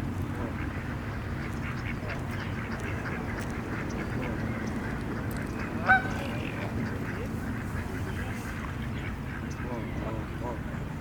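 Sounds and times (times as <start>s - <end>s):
low background noise: 0.0s - 11.0s
waterfowl calling: 0.4s - 10.6s.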